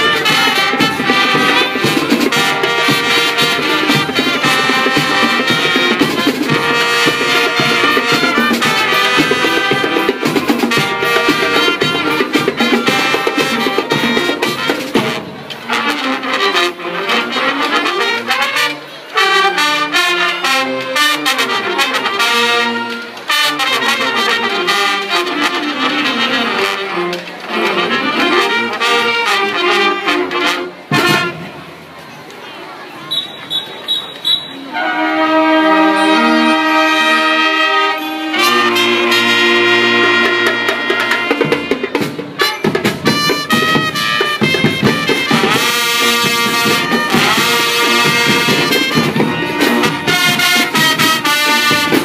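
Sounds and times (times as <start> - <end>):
marching band playing: 0.0 - 52.0.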